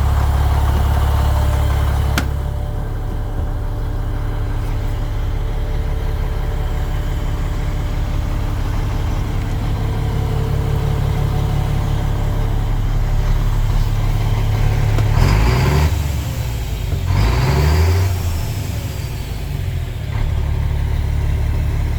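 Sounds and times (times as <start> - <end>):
truck diesel engine idling and revving: 0.0 - 21.9.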